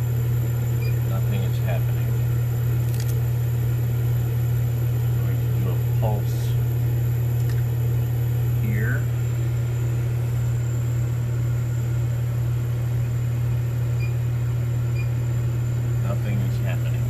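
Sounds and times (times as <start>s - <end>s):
low electric pump hum: 0.0s - 17.0s.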